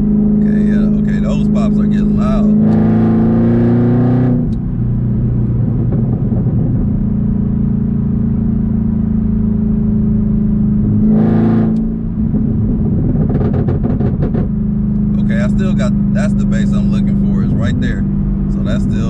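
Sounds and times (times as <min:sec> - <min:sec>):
exhaust crackles: 0:00.0 - 0:07.4, 0:10.2 - 0:19.0
car exhaust rumble: 0:00.0 - 0:19.0.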